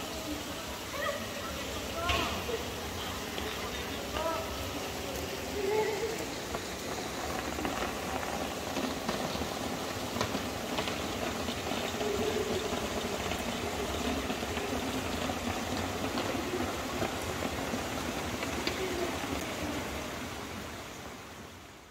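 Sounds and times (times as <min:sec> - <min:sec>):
faint voices: 0:00.0 - 0:21.0
water falling on wet pavement: 0:00.0 - 0:21.9.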